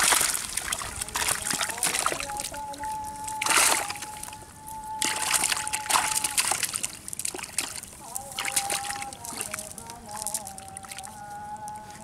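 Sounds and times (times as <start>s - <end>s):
fish splashing in water: 0.0s - 11.1s.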